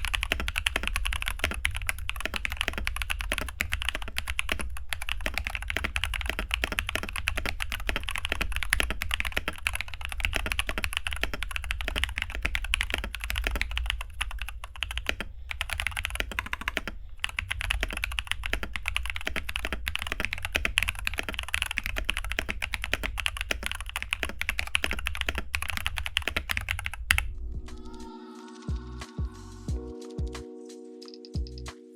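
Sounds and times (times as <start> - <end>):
typing on mechanical keyboard: 0.0 - 27.3.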